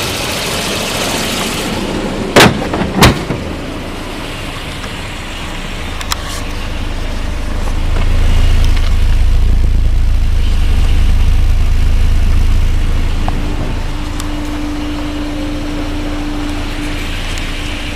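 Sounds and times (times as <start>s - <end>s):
car engine idling: 0.0s - 17.9s
steady higher tone: 3.5s - 17.9s.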